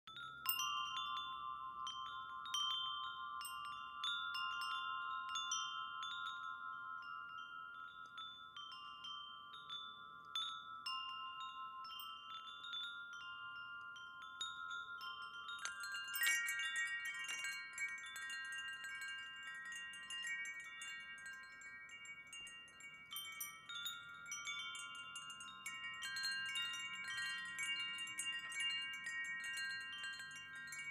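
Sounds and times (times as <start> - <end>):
wind chimes ringing: 0.1 - 30.9.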